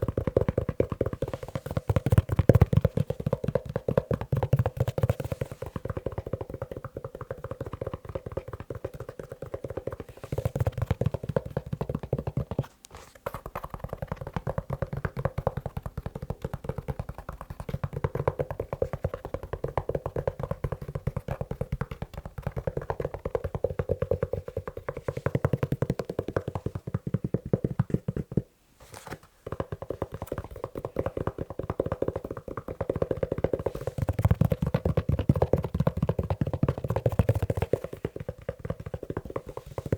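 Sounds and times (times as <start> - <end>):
fast tapping on leather shoe: 0.0 - 28.6, 29.4 - 39.9.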